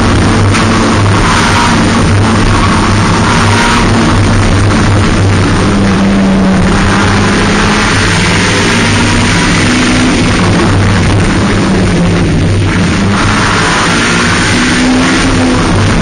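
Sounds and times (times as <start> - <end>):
race car engine at high revs: 0.0 - 16.0
wind rush: 0.0 - 16.0.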